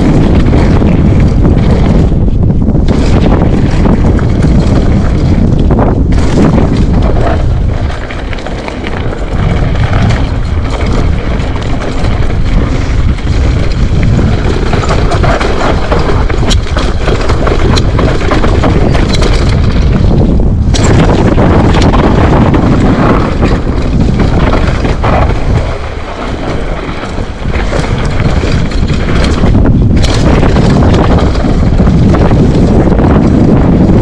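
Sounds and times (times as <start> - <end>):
bike clicks and rattles: 0.0 - 34.0
bike tyre noise: 0.0 - 34.0
wind buffeting microphone: 0.0 - 34.0.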